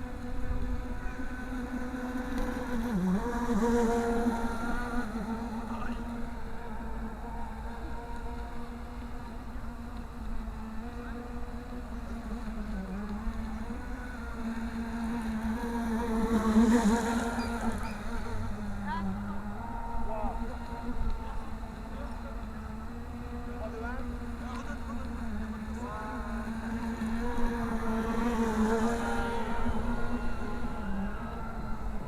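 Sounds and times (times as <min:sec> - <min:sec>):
model boat motor buzzing: 0:00.0 - 0:32.0.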